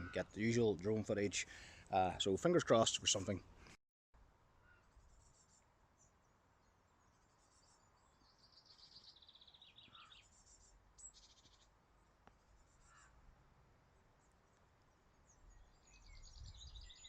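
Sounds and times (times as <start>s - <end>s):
songbirds trilling and chirping: 0.0s - 3.4s, 4.6s - 13.2s, 13.8s - 17.0s
faint low background noise: 0.0s - 17.0s.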